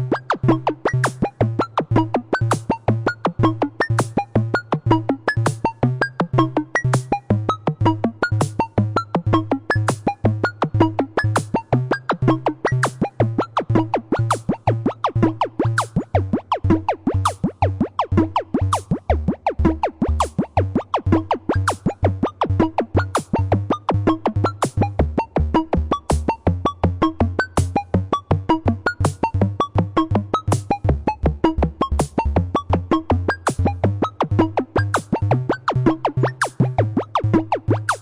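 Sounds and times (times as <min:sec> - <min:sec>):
pulsing bass line: 0:00.0 - 0:38.0
synthesizer: 0:00.0 - 0:38.0
drum machine beat: 0:01.0 - 0:16.2, 0:16.8 - 0:38.0.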